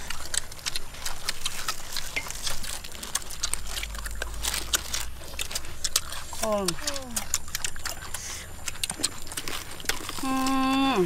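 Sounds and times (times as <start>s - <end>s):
crackers crackling: 0.0s - 11.0s.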